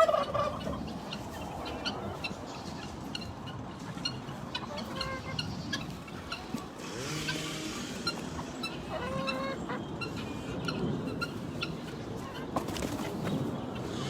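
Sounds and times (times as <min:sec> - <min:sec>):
chickens and turkeys clucking: 0:00.0 - 0:14.0.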